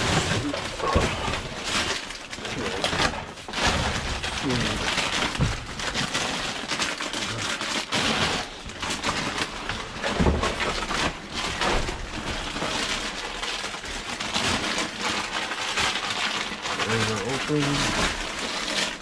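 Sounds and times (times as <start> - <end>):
chip bags crinkling: 0.0 - 19.0.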